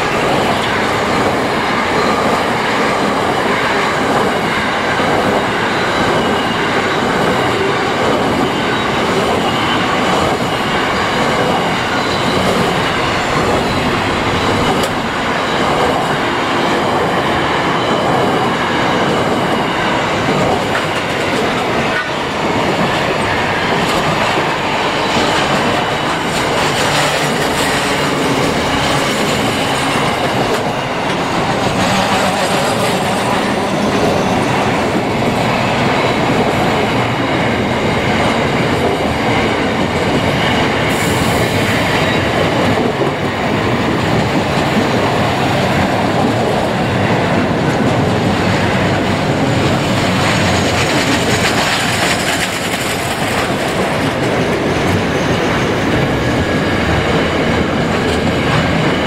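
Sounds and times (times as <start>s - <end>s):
clickety-clack over rail joints: 0.0s - 59.0s
train wheels rumbling: 0.0s - 59.0s.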